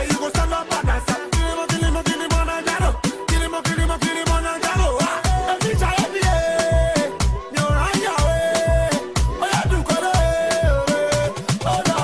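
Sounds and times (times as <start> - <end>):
afrobeat music: 0.0 - 12.0
heavy kick drum beat: 0.0 - 12.0.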